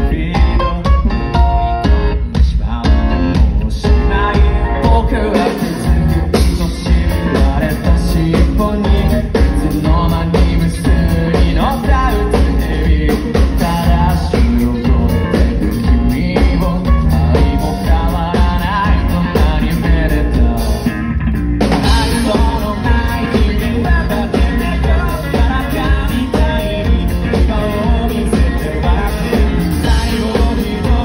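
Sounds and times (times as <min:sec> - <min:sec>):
man singing: 0:00.0 - 0:21.0, 0:21.7 - 0:31.0
drums: 0:00.0 - 0:31.0
electric guitar: 0:00.0 - 0:31.0
heavy bass: 0:00.0 - 0:31.0
keyboard: 0:00.0 - 0:31.0.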